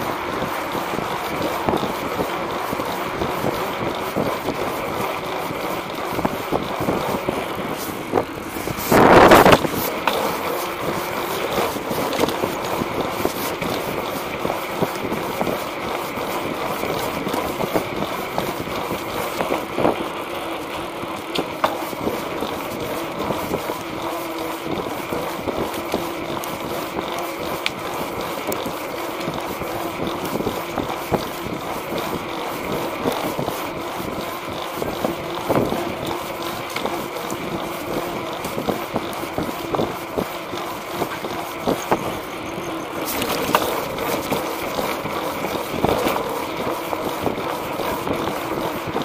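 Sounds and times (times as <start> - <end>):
wind on microphone: 0.0 - 20.5, 21.2 - 49.0
wheels rolling on concrete: 0.0 - 49.0.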